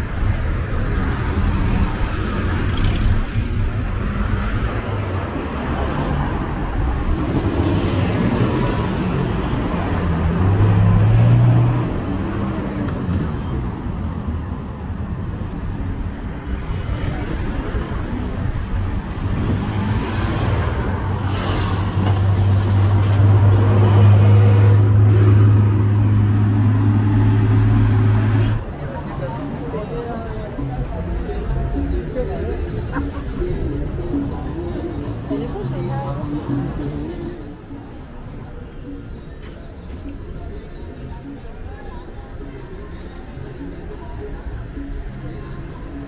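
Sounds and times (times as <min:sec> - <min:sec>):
heavy road traffic: 0:00.0 - 0:46.0.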